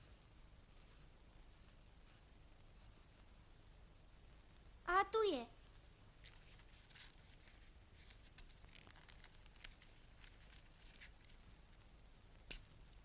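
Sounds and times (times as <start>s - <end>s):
faint rustling: 0.0s - 3.5s, 5.6s - 13.0s.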